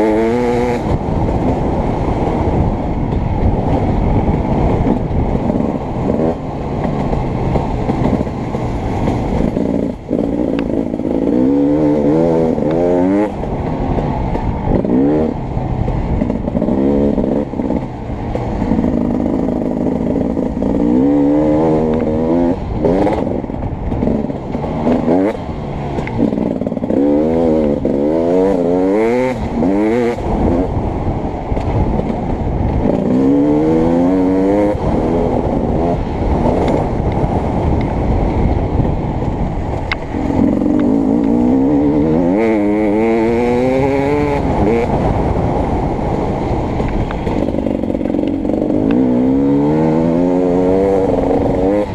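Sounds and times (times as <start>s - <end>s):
dirt bike engine revving: 0.0s - 1.1s, 7.2s - 13.6s, 14.4s - 15.4s, 16.2s - 30.8s, 32.8s - 51.9s.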